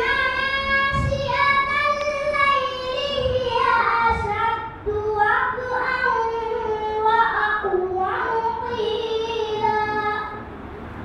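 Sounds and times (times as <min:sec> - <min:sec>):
girl chanting into microphone: 0:00.0 - 0:10.4.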